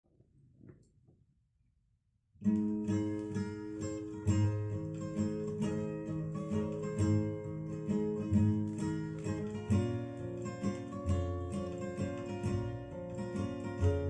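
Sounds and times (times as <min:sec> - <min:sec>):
acoustic guitar folk music: 0:02.4 - 0:14.0.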